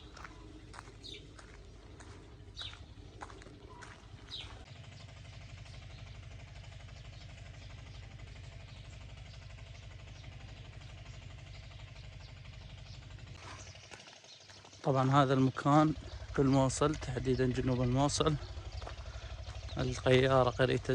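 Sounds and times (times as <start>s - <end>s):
bird chirps: 0.0s - 20.9s
vehicle engine running: 0.0s - 20.9s.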